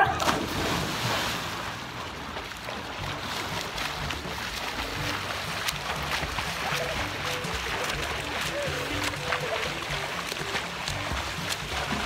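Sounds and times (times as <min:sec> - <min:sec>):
pool water splashing: 0:00.0 - 0:12.0.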